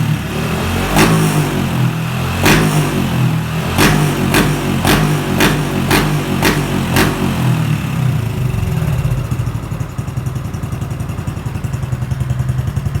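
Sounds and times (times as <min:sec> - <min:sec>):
motorcycle engine idling: 0:00.0 - 0:13.0
motorcycle engine throttle blips: 0:00.0 - 0:13.0.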